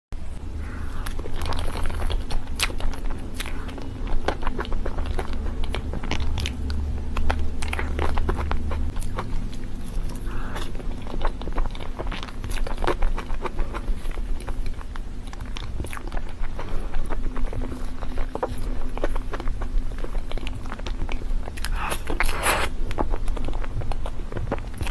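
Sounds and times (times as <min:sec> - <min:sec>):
steady low hum: 0:00.2 - 0:24.9
person chewing with mouth clicks: 0:00.6 - 0:24.9.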